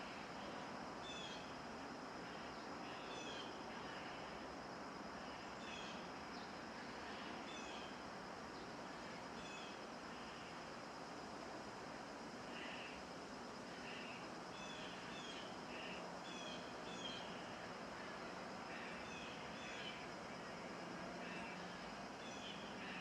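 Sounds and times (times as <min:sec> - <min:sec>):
wind: 0:00.0 - 0:23.0.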